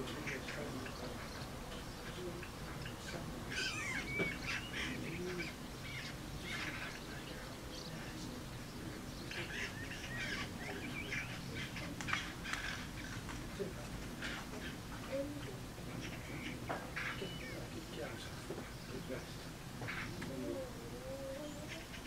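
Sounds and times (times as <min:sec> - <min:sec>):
magpies rattling chatter calls: 0:00.0 - 0:22.0.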